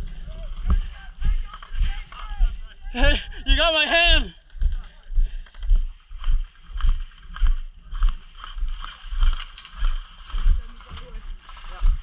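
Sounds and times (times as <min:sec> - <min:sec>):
footsteps with dull thuds: 0:00.0 - 0:12.0.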